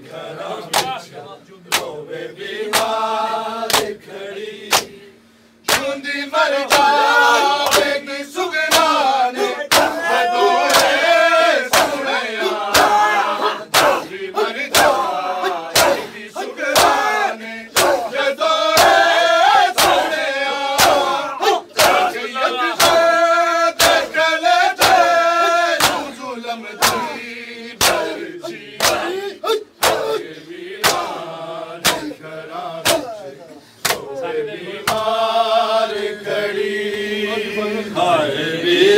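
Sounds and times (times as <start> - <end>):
crowd of men chanting: 0.0 - 38.9
men slapping chests in rhythm: 0.6 - 4.0, 4.6 - 5.0, 5.6 - 35.4.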